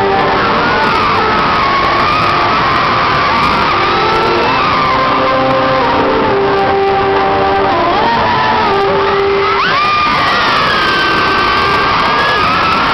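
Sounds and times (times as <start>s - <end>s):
crowd screaming: 0.0s - 12.9s.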